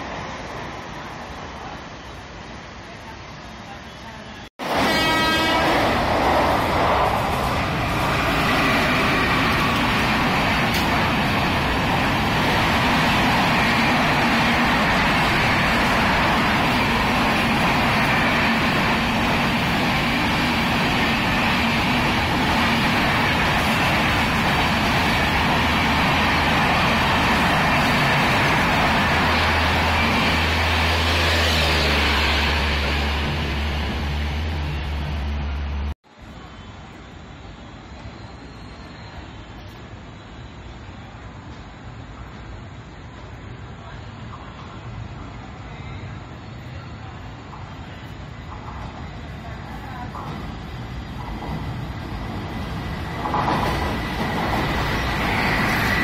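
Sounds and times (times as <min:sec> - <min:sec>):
train passing at speed: 0:00.0 - 0:56.0.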